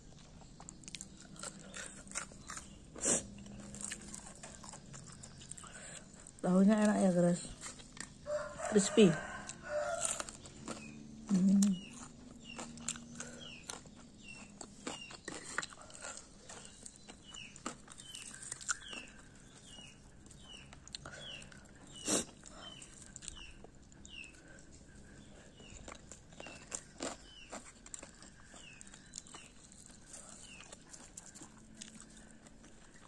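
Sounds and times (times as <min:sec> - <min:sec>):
chewing crunchy food: 0:00.0 - 0:33.0.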